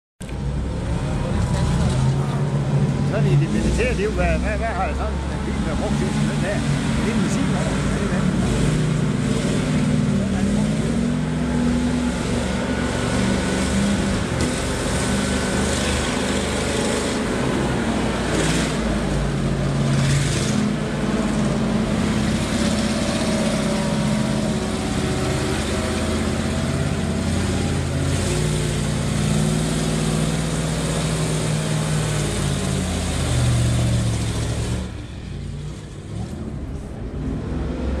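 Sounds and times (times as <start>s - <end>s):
truck engine revving under load: 0.2s - 38.0s.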